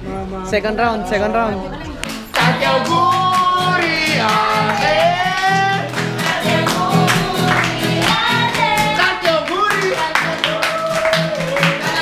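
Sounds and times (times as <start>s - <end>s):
acoustic guitar strumming: 0.0s - 12.0s
people singing along: 1.0s - 12.0s.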